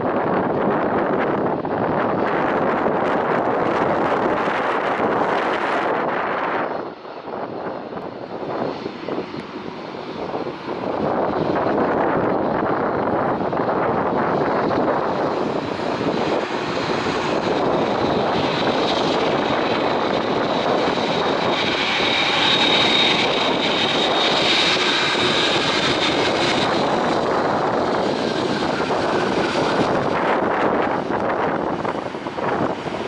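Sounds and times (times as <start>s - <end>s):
jet engines at taxi power: 0.0s - 33.0s.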